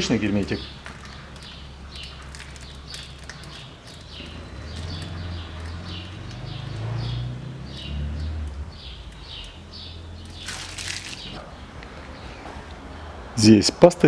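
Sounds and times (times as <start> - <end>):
small bird chirping: 0.0 - 13.2.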